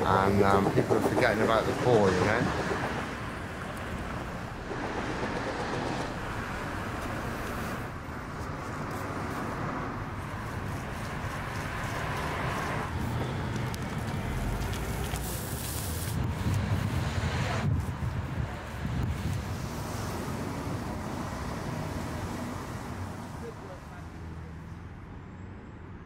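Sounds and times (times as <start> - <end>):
low rumble of traffic: 0.0 - 26.0.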